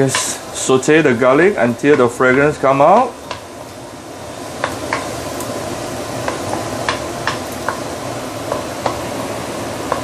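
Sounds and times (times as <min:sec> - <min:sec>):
garlic sizzling in hot oil: 0:00.0 - 0:10.0.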